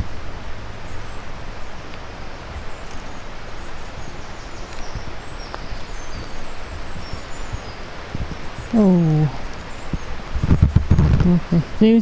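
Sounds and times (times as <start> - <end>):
small birds chirping: 0.0 - 12.0
wind rumbling on microphone: 0.0 - 12.0.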